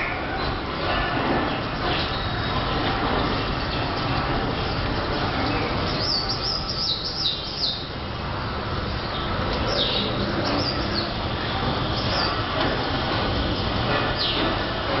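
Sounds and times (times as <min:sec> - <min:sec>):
birds chirping: 0:00.0 - 0:08.0, 0:08.8 - 0:15.0
car-wash gantry rumble: 0:00.2 - 0:15.0.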